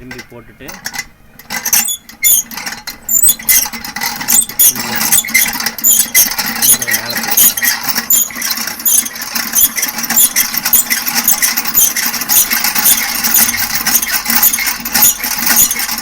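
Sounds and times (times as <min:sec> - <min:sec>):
honey extractor clicking rattle: 0:00.0 - 0:16.0.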